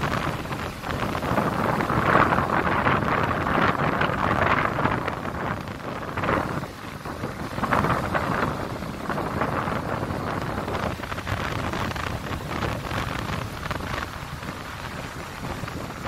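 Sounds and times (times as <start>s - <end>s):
surf washing up beach: 0.0s - 16.0s
wind buffeting microphone: 0.0s - 16.0s.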